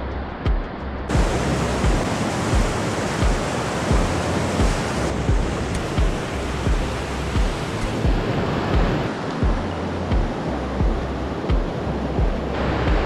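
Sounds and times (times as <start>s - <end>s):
background music with low beat: 0.0s - 13.0s
river rushing: 1.1s - 13.0s.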